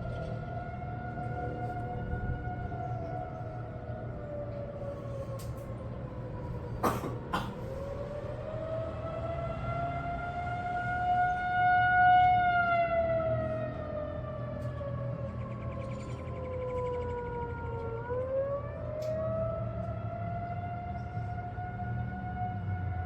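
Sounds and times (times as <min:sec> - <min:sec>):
wailing warning siren: 0:00.0 - 0:23.0.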